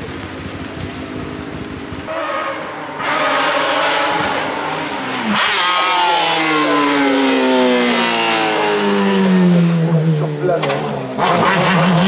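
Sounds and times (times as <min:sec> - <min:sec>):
race car engine: 0:00.0 - 0:12.0.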